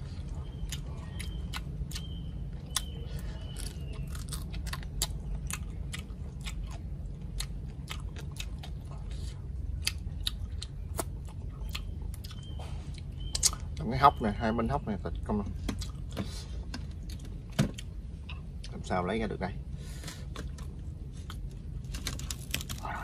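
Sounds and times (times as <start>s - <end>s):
chewing and crunching crispy food: 0.0s - 18.9s, 19.8s - 23.0s.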